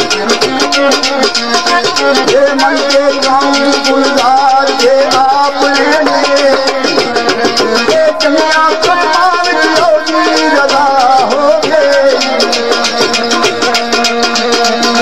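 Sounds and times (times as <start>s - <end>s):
bending folk melody: 0.0s - 15.0s
fast rattling percussion: 0.0s - 15.0s.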